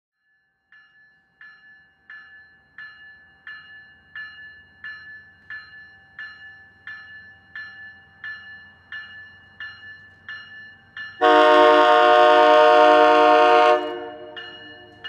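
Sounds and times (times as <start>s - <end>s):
railroad crossing bell ringing: 0.2s - 15.0s.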